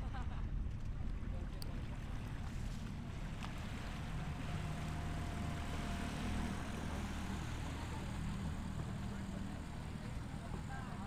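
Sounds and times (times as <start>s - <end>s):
boat engine humming: 1.1s - 11.0s.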